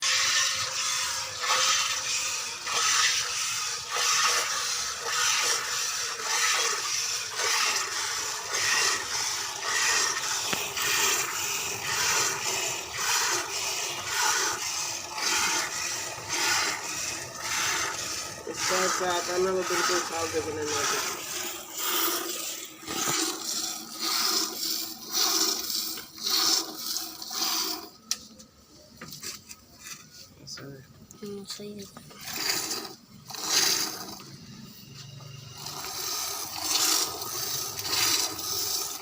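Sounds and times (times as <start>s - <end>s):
rhythmic scraping strokes: 0.0s - 28.3s, 29.1s - 39.0s.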